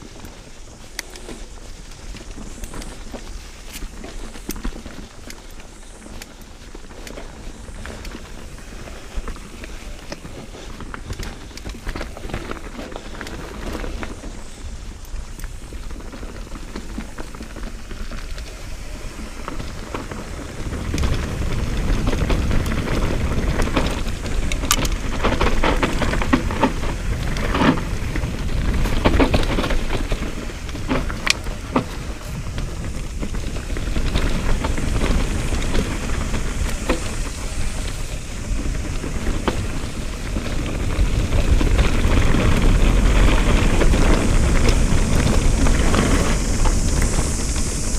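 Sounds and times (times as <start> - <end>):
bike clicks and rattles: 0.0 - 47.9
bike tyres crackling over dirt: 0.0 - 47.9
wind rumble on microphone: 0.0 - 47.9.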